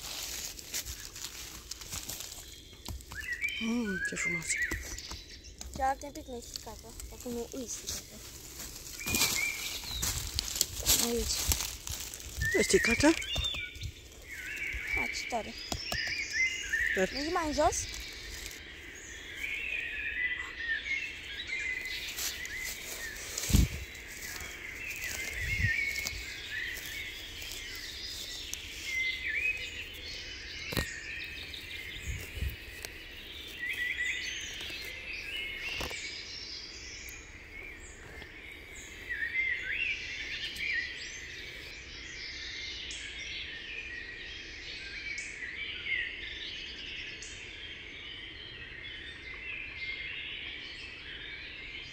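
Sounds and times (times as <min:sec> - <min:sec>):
birds chirping and calling: 0:00.0 - 0:51.9.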